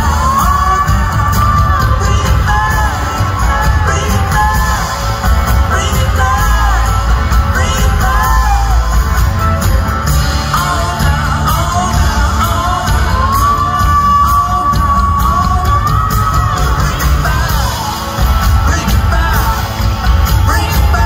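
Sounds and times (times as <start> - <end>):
heavy bass and drums: 0.0 - 21.0
live band music: 0.0 - 21.0
man and woman singing: 0.0 - 21.0.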